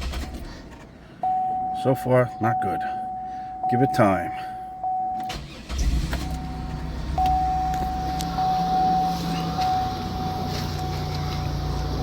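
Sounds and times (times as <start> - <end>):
car engine starting and running: 0.0 - 12.0.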